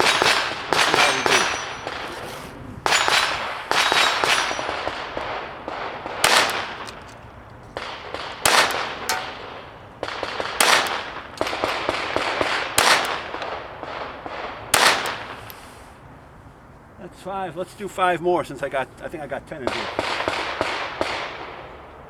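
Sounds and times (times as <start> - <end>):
pistol shots: 0.0 - 15.7, 19.7 - 22.0.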